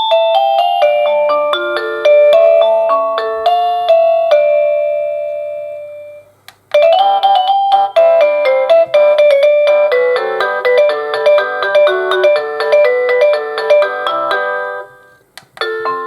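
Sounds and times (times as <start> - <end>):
electronic doorbell chime tunes: 0.0 - 16.0.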